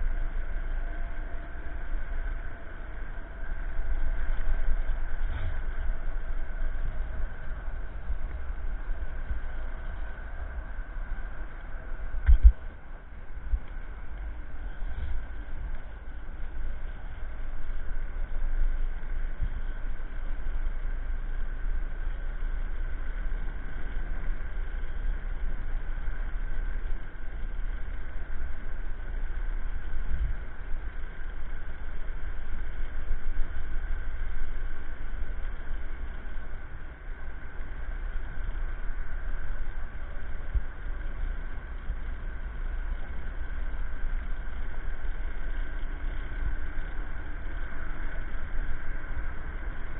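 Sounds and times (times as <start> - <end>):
electric scooter high whine: 0.0 - 49.9
wind rumble on microphone: 0.0 - 49.9.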